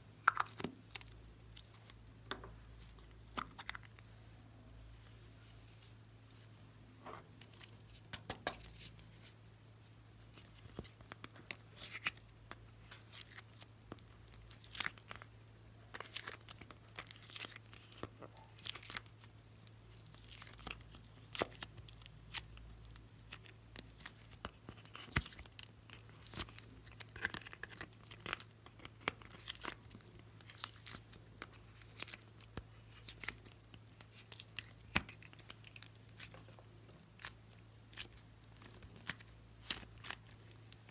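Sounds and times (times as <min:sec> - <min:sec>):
faint low hum: 0:00.0 - 0:40.9.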